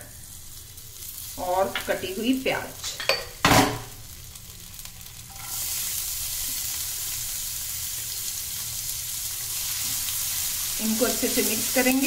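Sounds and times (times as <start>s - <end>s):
onion and ginger sizzling in ghee: 0.0s - 12.0s.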